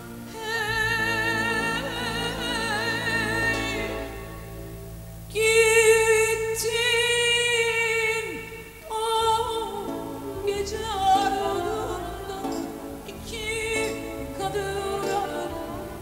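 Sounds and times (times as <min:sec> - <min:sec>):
quiet sustained accompaniment: 0:00.0 - 0:16.0
woman singing with vibrato: 0:00.0 - 0:16.0.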